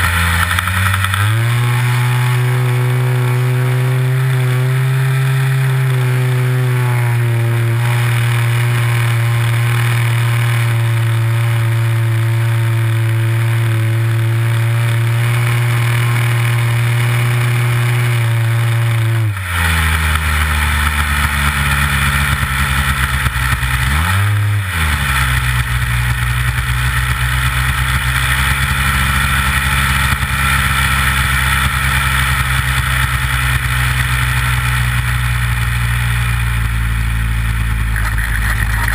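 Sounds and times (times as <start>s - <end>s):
model plane engine running: 0.0s - 38.9s.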